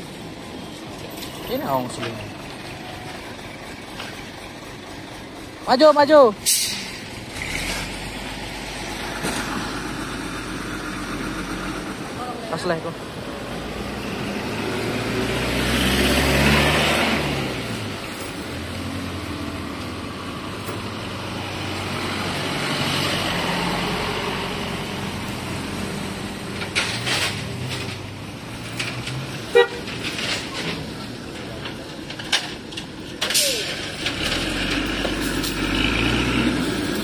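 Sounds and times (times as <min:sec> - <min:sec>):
vehicles passing on wet road: 0:00.0 - 0:37.0.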